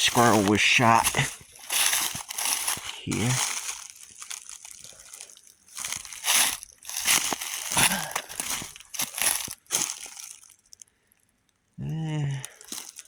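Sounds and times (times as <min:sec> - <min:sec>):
footsteps crunching through leaves: 0:00.0 - 0:10.7, 0:12.6 - 0:13.0.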